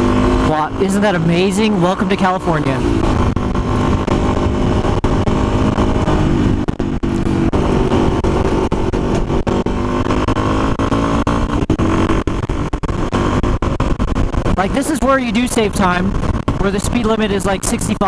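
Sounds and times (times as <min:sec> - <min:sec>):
motorcycle engine pulling: 0:00.0 - 0:17.4
wind rushing over microphone: 0:00.0 - 0:18.0.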